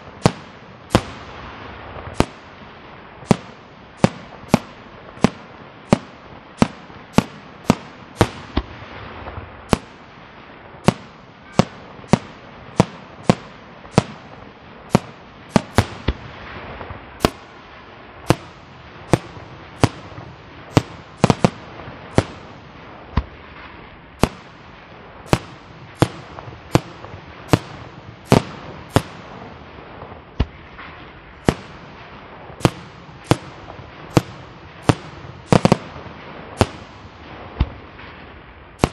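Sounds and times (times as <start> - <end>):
fireworks bursting: 0.0 - 38.9
hiss of burning fireworks: 0.0 - 38.9.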